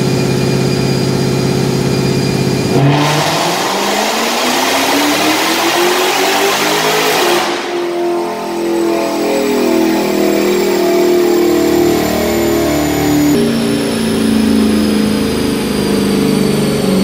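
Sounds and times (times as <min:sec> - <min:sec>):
engine at full throttle: 0:00.0 - 0:17.0
high whine falling in pitch: 0:00.0 - 0:17.0.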